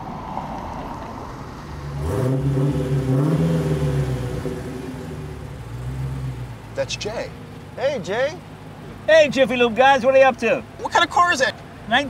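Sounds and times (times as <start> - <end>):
car driving by slowly: 0.0 - 11.9.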